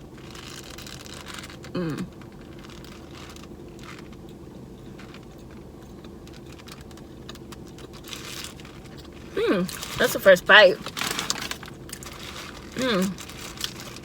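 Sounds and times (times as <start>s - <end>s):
person chewing a burger: 0.0s - 10.0s, 10.8s - 14.0s.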